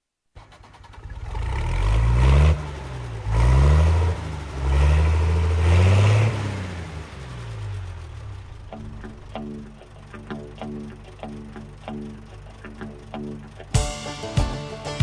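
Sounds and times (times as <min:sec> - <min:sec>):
engine revving: 0:00.4 - 0:13.7.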